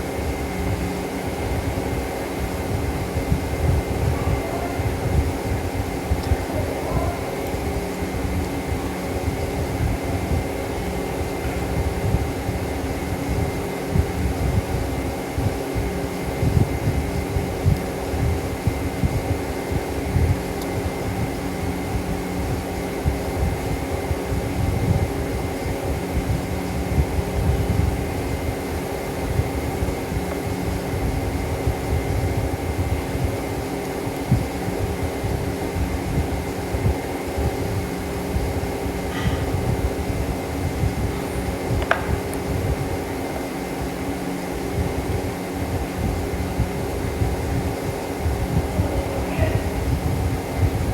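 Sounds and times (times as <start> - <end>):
machine drone with hum: 0.0 - 50.9.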